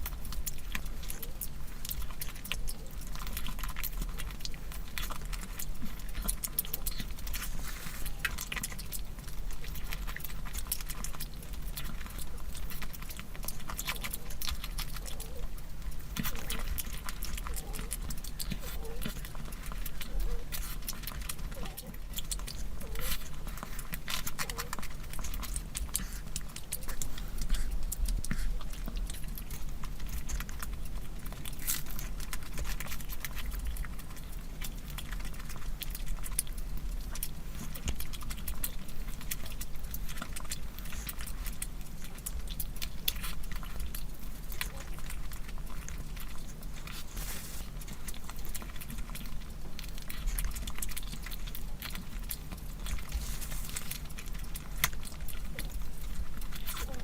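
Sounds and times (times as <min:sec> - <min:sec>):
steady low hum: 0:00.0 - 0:57.0
wet chewing and smacking: 0:00.0 - 0:57.0.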